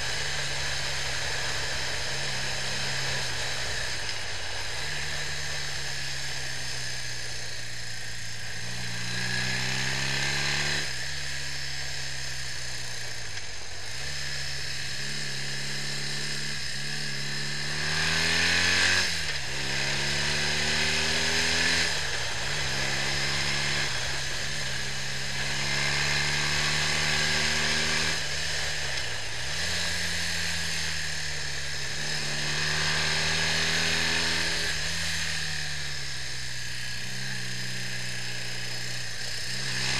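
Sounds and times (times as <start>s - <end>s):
motorcycle accelerating: 0.0s - 39.9s.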